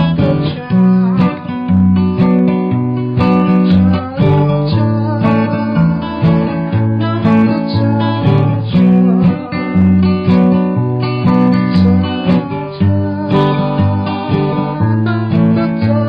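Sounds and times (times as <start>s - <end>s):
bass line: 0.0s - 16.0s
strummed acoustic guitar: 0.0s - 16.0s.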